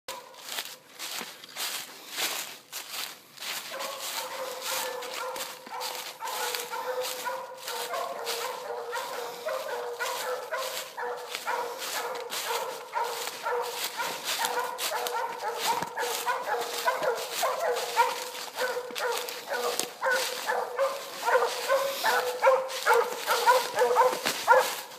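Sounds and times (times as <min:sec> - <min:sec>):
hounds barking: 0:00.1 - 0:24.9
scuffing noises: 0:00.1 - 0:24.9.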